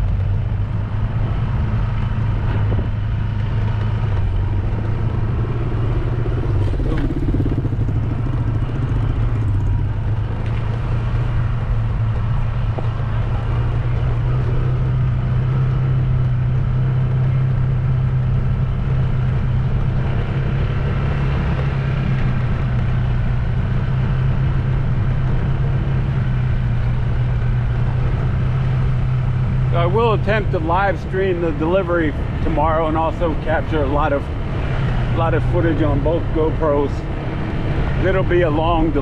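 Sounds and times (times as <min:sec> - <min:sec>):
road and wind noise: 0:00.0 - 0:39.0
vehicle engine droning: 0:00.0 - 0:39.0.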